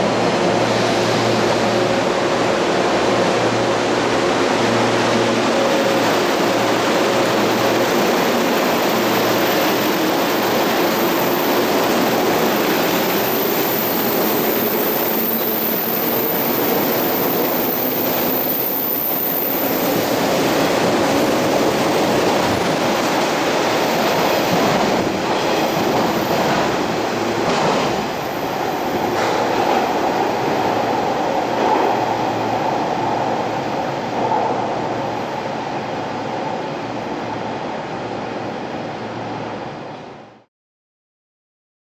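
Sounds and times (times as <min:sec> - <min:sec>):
electric train running on rails: 0:00.0 - 0:40.2.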